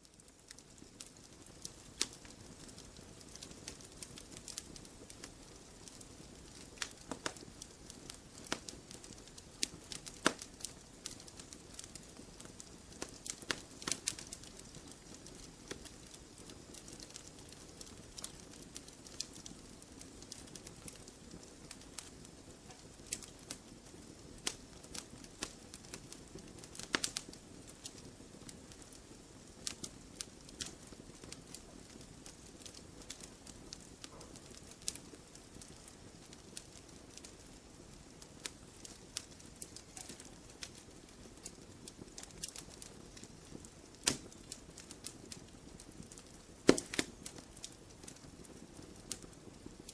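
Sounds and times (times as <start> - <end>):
low fire background: 0.0 - 49.9
wood crackling snaps and pops: 0.0 - 49.9.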